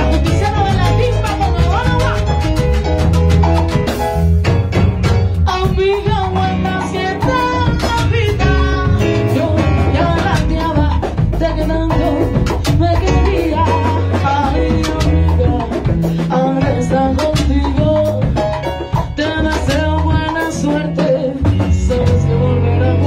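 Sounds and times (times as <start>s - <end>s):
woman singing: 0.0s - 2.5s, 5.4s - 23.0s
drum kit: 0.0s - 23.0s
salsa band playing: 0.0s - 23.0s.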